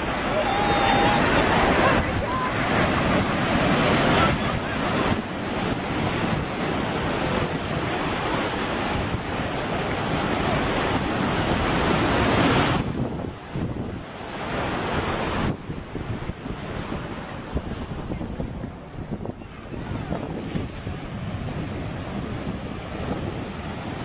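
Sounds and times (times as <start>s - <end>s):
small waves breaking on beach: 0.0s - 24.0s
wind buffeting microphone: 0.0s - 24.0s.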